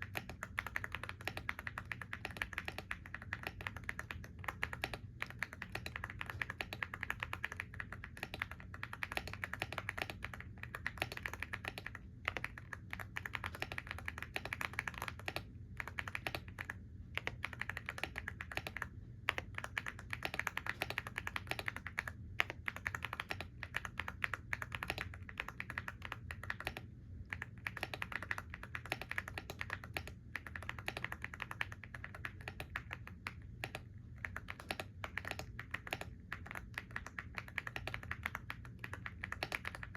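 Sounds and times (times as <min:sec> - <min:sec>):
keyboard typing clicks: 0:00.0 - 0:39.9.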